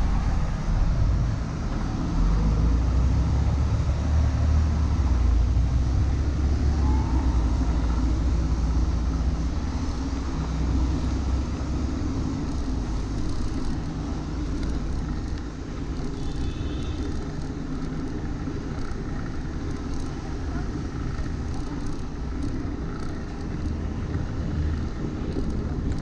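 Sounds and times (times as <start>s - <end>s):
city traffic: 0.0s - 26.0s
diesel buses rumbling: 0.0s - 26.0s.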